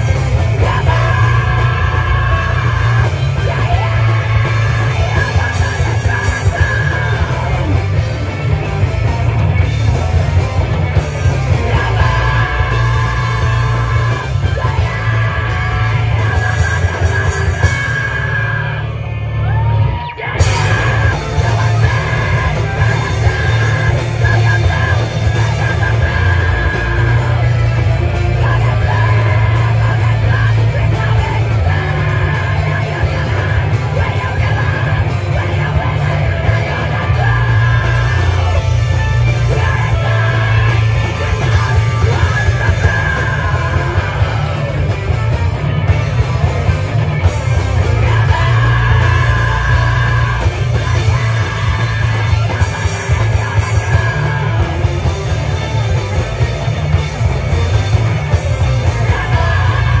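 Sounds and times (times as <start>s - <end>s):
heavy rock band playing: 0.0s - 60.0s
sliding guitar tone: 0.0s - 60.0s.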